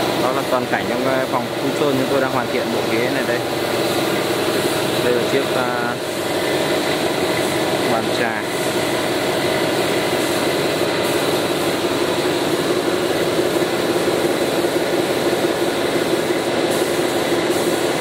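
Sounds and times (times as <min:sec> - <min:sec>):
machinery hiss and hum: 0:00.0 - 0:18.0.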